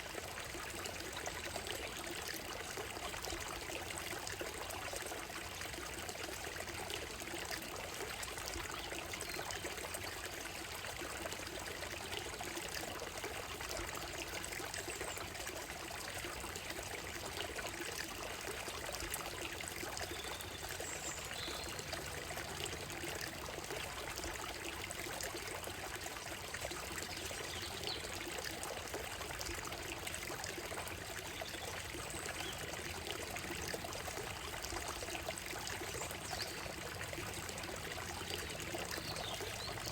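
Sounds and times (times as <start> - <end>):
stream running over gravel: 0.0 - 39.9.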